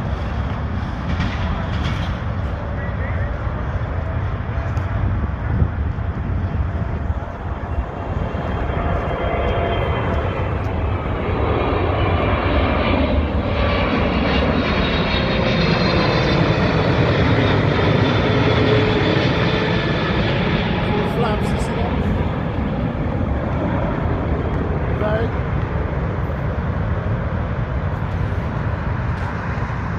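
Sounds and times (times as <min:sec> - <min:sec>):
airplane engines running: 0:00.0 - 0:29.9
gliding engine tones: 0:00.0 - 0:29.9.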